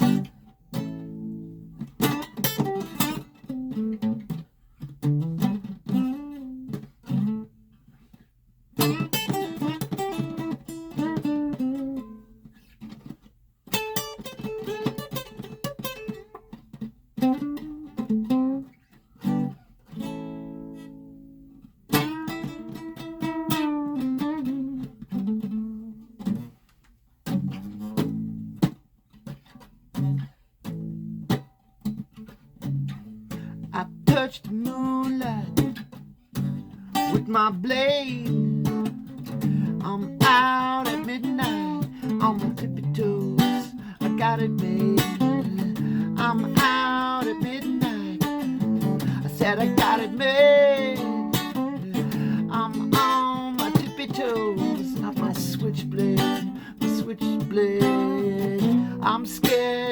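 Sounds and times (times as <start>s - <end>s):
guitar strumming chords: 0.0s - 59.9s.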